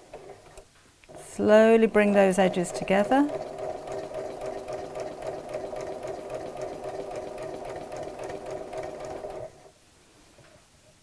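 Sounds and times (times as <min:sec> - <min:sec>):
sewing machine stitching fabric: 0:00.0 - 0:09.7.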